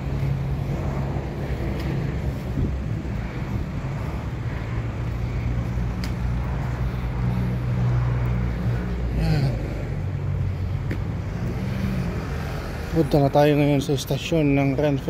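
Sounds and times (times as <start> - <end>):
outdoor street noise: 0.0 - 15.0.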